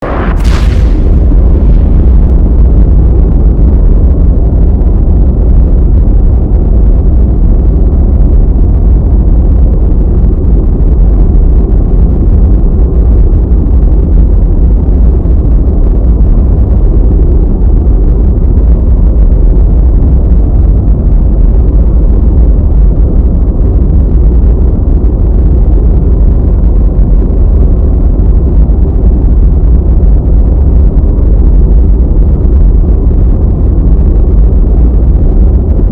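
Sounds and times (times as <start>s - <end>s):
deep rumble: 0.0s - 35.9s.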